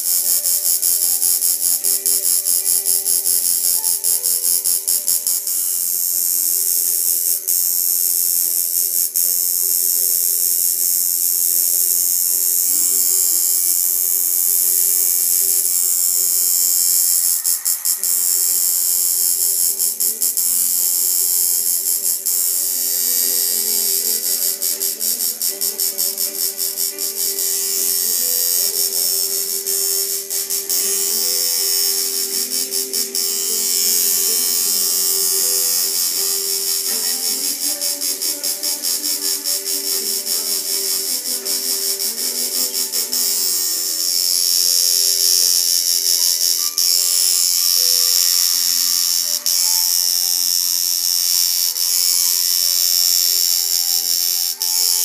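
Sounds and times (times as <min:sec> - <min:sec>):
tattoo machine buzzing: 0:00.0 - 0:55.0.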